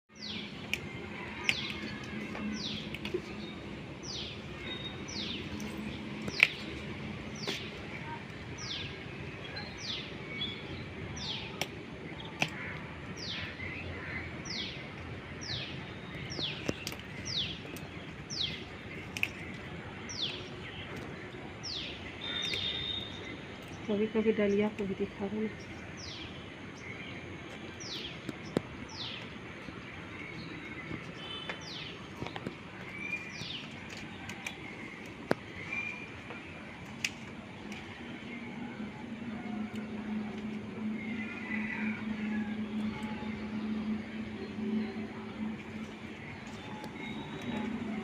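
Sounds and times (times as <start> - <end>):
low outdoor background noise: 0.1 - 48.0.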